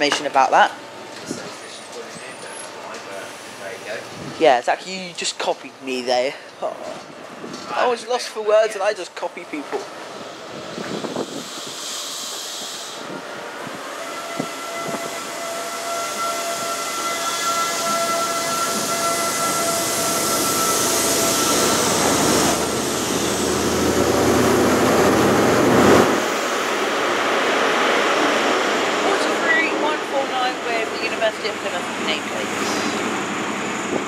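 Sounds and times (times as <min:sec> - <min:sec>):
train pulling out with whine: 0:00.0 - 0:04.5, 0:07.2 - 0:34.0.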